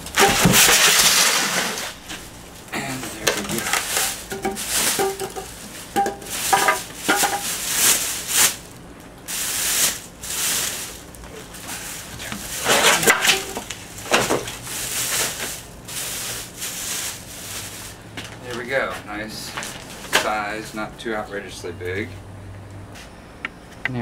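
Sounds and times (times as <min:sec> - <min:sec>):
plastic rustling and crinkling: 0:00.0 - 0:20.7.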